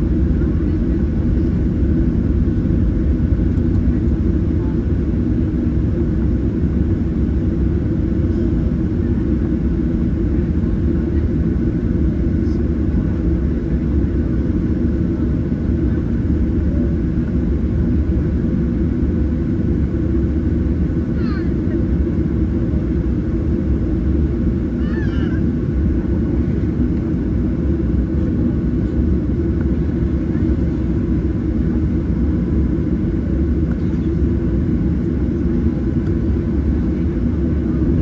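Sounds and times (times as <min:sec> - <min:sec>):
airplane cabin engine rumble: 0:00.0 - 0:38.0.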